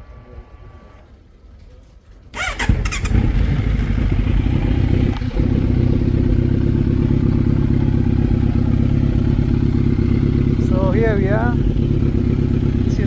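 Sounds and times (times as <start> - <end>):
motorcycle engine idling: 2.4 - 13.0.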